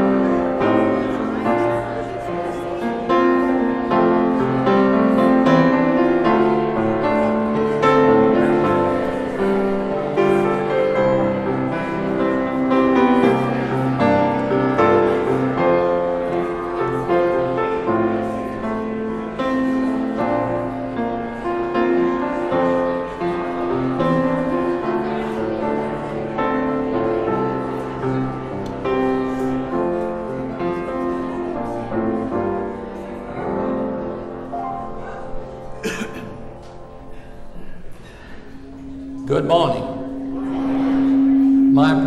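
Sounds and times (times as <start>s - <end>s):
slow keyboard music with chords: 0.0s - 42.0s.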